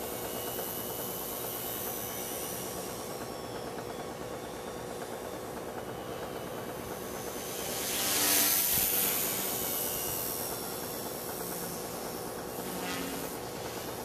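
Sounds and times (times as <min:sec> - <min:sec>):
rc helicopter whine: 0:00.0 - 0:14.0.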